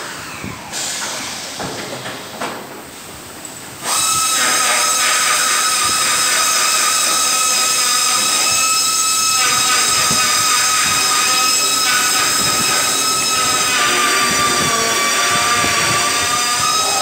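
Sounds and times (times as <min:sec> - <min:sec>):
machine whine with hiss: 0:00.0 - 0:02.6, 0:03.8 - 0:17.0.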